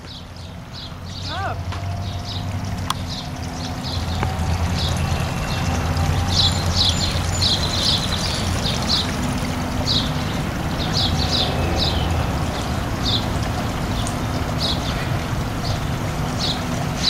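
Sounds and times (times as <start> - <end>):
fountain water running: 0.0 - 17.0
small birds chirping: 0.0 - 17.0.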